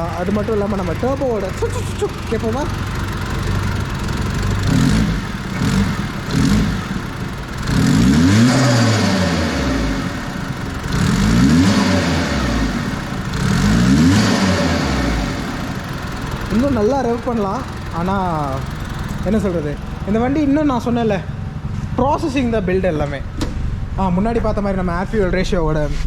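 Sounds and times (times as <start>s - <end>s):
car engine revving: 0.0s - 25.1s.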